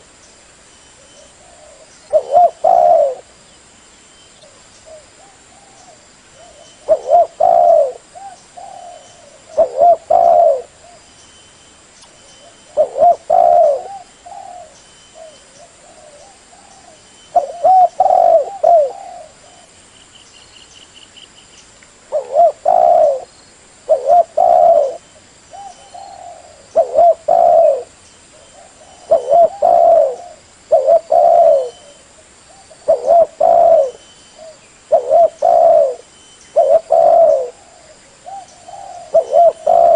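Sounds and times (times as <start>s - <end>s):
dove cooing: 1.1s - 3.3s, 4.4s - 11.0s, 12.4s - 19.7s, 22.1s - 23.3s, 23.9s - 39.9s.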